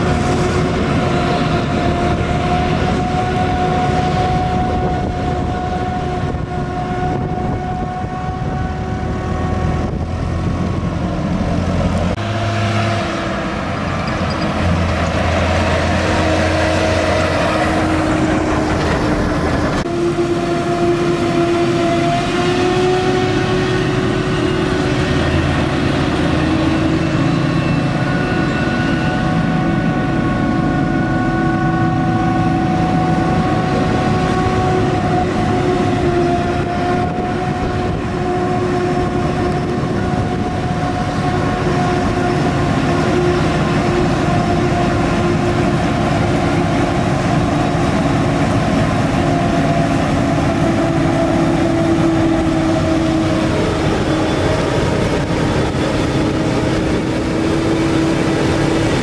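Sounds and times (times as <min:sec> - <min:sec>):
harvester engine drone: 0:00.0 - 0:59.0.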